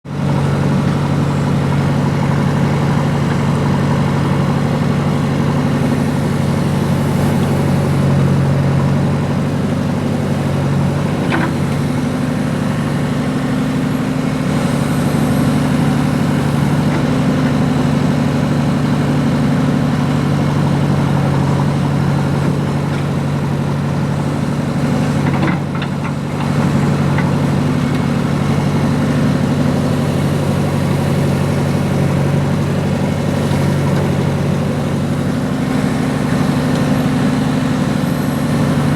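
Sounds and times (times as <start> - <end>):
excavator diesel engine humming: 0.1 - 38.9.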